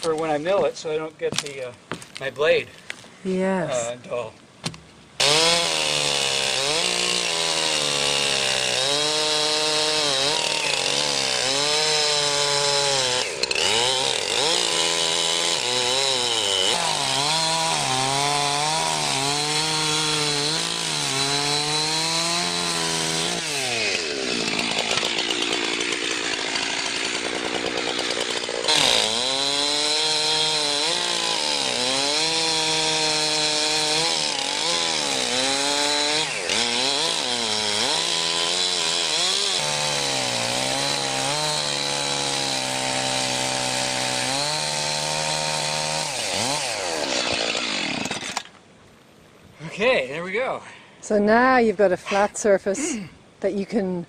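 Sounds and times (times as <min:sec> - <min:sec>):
chainsaw cutting log: 0:04.7 - 0:48.6.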